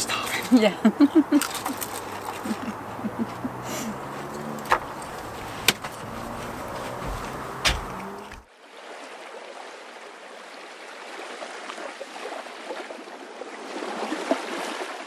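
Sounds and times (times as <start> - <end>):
small water splashes: 0.0 - 15.0
water trickling and babbling: 0.0 - 15.0.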